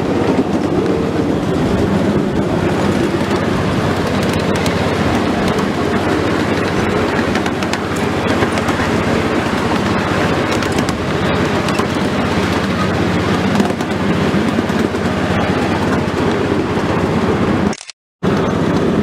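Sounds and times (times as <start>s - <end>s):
train rumbling and rattling: 0.0s - 19.0s
wheels clicking on rails: 0.0s - 19.0s.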